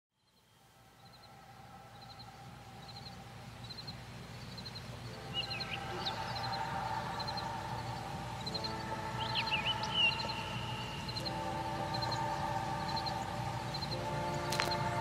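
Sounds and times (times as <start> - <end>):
birds chirping: 0.1 - 15.0
low steady hum: 0.2 - 15.0.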